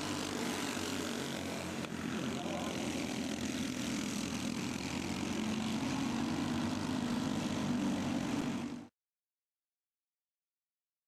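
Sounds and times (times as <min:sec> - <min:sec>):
go-kart engines buzzing: 0:00.0 - 0:08.9.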